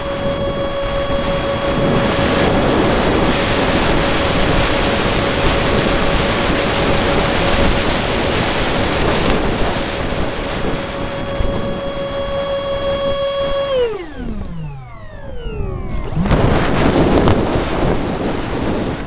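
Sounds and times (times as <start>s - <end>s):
electric ducted-fan motor whining: 0.0s - 19.0s
wind buffeting microphone: 0.0s - 19.0s.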